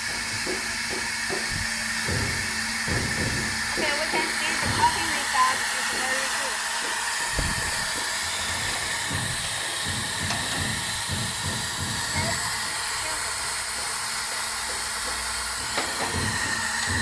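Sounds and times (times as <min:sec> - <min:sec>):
air hissing from plasma cutter: 0:00.2 - 0:17.0.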